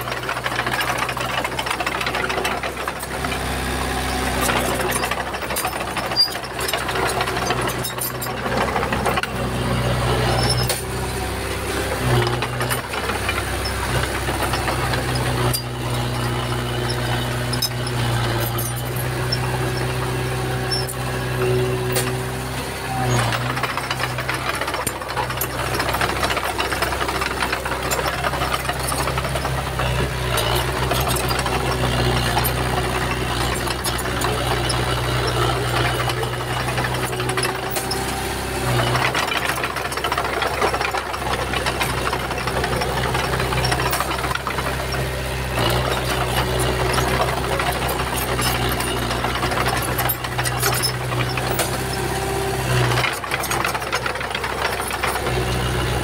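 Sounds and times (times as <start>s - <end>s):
metallic clanks and rattles: 0.0s - 11.2s, 12.2s - 56.0s
bulldozer diesel engine running: 0.0s - 56.0s.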